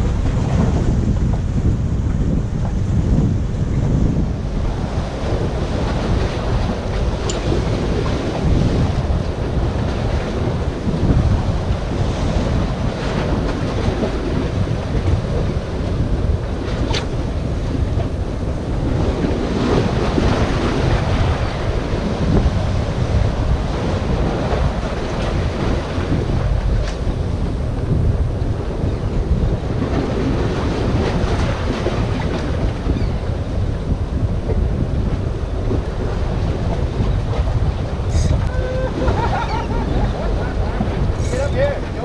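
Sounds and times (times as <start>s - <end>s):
wind buffeting microphone: 0.0s - 42.0s
waves breaking against rocks: 4.1s - 42.0s.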